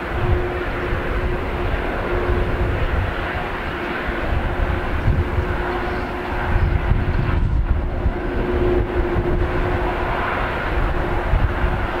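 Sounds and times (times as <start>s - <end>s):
jet engines running: 0.0s - 12.0s
rumbling runway noise: 0.0s - 12.0s
wind buffeting microphone: 0.0s - 12.0s.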